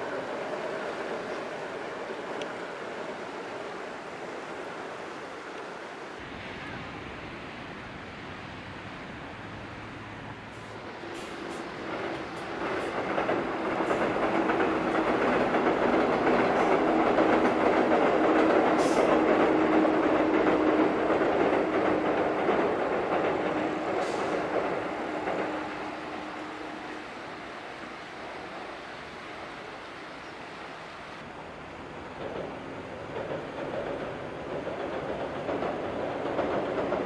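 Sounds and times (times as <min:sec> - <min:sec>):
electric train crossing steel bridge: 0:00.0 - 0:37.0.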